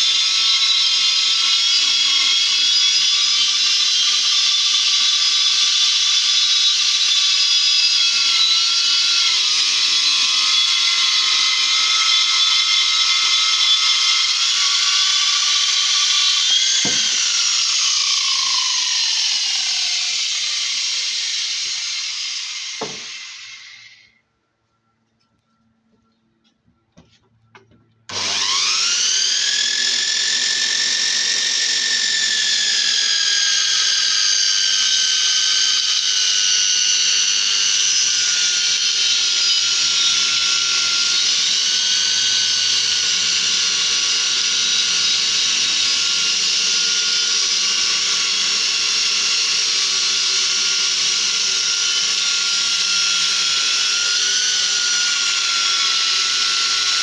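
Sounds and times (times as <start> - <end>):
blade cutting through wood: 0.0 - 24.2, 28.1 - 57.0
saw motor whining: 0.0 - 24.2, 27.6 - 57.0.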